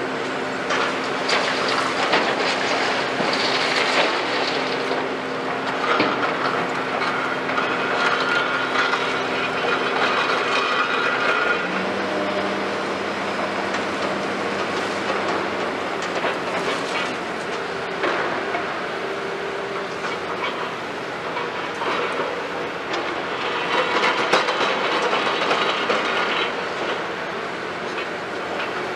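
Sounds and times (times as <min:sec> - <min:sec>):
excavator diesel engine hum: 0:00.0 - 0:28.9.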